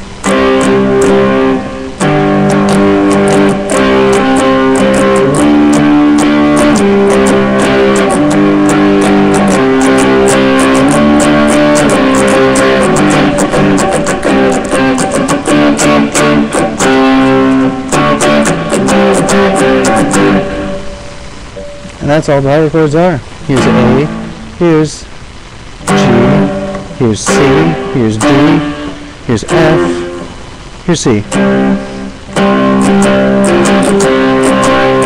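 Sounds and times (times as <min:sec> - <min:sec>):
electric guitar power chords: 0:00.0 - 0:35.0.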